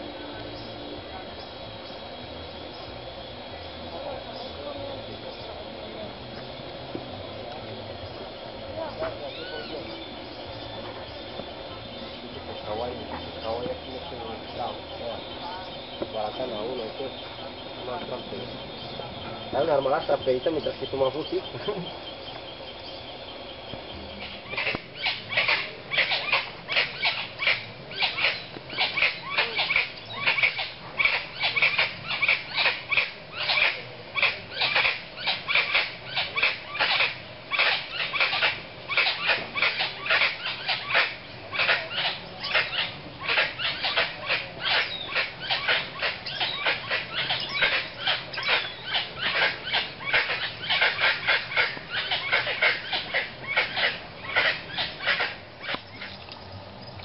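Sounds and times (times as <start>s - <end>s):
animal chirping: 8.8s - 22.2s, 24.2s - 56.4s.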